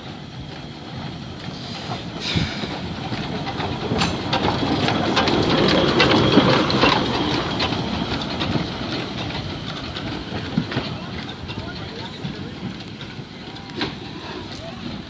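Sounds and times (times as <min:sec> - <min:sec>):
train rumble: 0:00.0 - 0:15.0
wheels clicking and knocking: 0:00.0 - 0:15.0.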